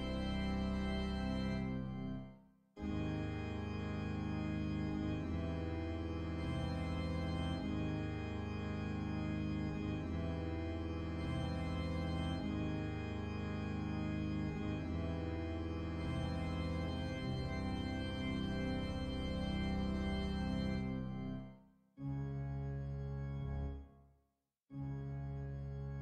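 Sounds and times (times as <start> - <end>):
organ playing sustained chords: 0.0 - 2.2, 2.8 - 23.8, 24.8 - 26.0.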